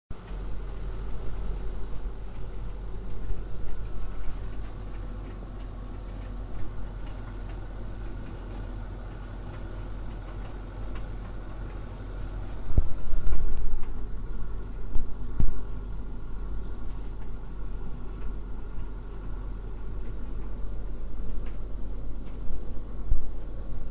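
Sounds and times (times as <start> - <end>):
tumble dryer humming: 0.1 - 23.9.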